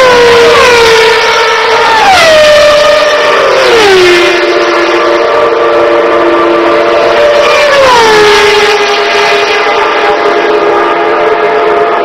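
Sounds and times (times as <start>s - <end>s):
racing cars passing at speed: 0.0s - 12.0s.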